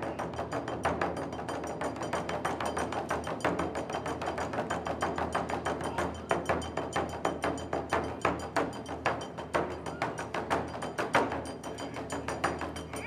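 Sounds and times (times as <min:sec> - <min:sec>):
drums played in fast rhythm: 0:00.0 - 0:13.0.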